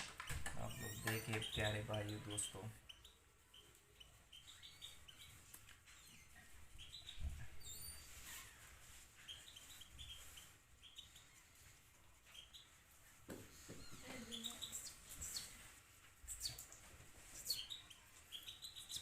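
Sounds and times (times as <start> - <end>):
songbirds chirping: 0.3 - 19.0.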